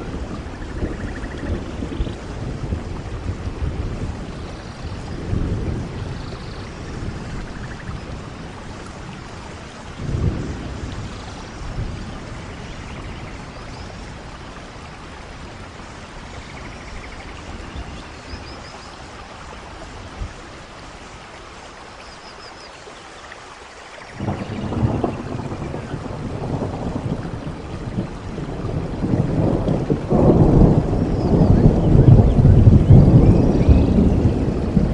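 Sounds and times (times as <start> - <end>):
thunder rumbling: 0.0 - 21.3, 24.1 - 34.9
heavy rain: 0.0 - 34.9.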